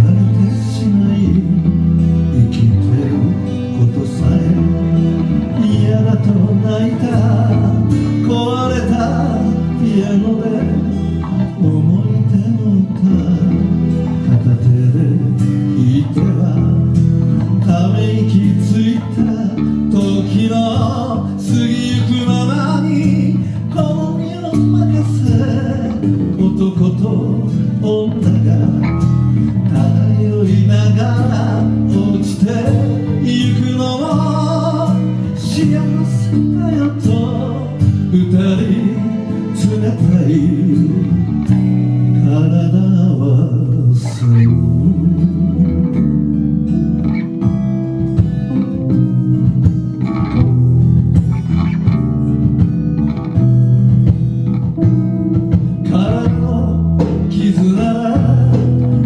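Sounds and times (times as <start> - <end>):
person singing: 0.0 - 46.6, 53.4 - 59.0
acoustic guitar: 0.0 - 59.0
electric bass guitar: 0.0 - 59.0.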